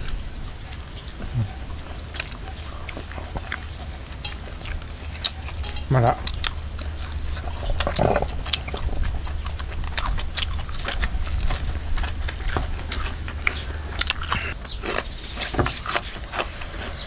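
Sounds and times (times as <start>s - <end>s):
person chewing food: 0.0s - 17.0s
steady low hum: 0.0s - 17.0s.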